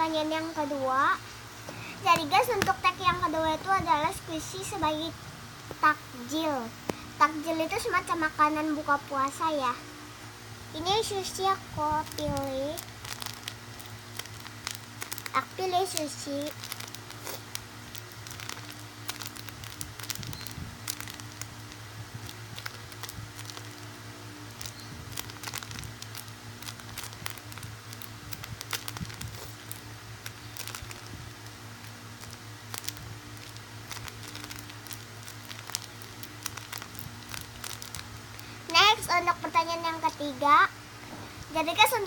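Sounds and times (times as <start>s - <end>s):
low electrical hum: 0.0s - 42.0s
foam squishy crackling and rustling: 2.0s - 5.0s, 10.8s - 42.0s.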